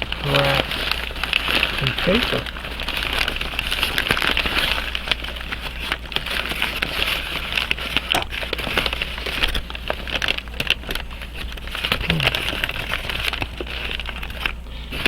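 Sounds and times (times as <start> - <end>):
paper crinkling: 0.0 - 15.0.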